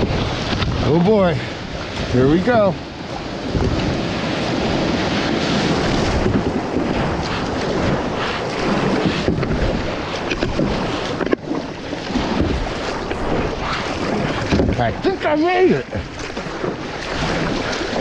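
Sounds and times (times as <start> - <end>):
ocean surf breaking: 0.0 - 18.0
water rushing around kayak: 0.0 - 18.0
wind buffeting microphone: 0.0 - 18.0.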